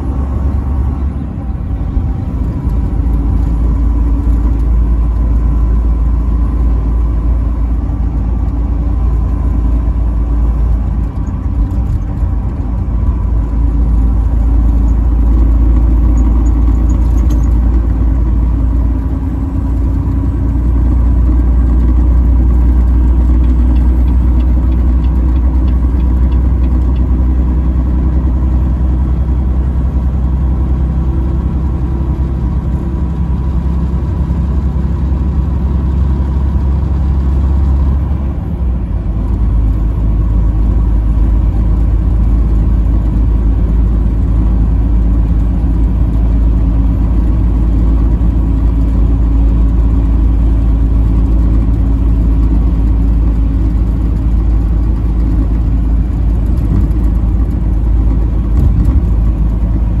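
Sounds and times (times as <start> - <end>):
diesel truck engine running: 0.0 - 60.0
road noise: 0.0 - 60.0.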